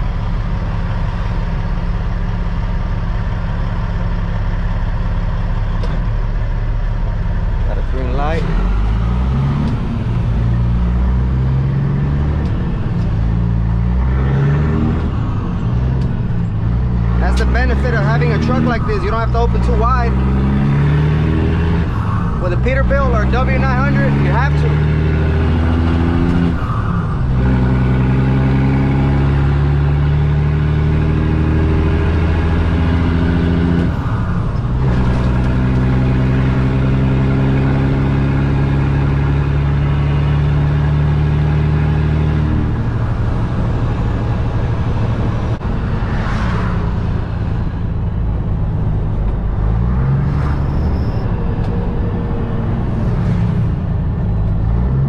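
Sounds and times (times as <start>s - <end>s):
diesel truck engine accelerating: 0.0s - 55.0s.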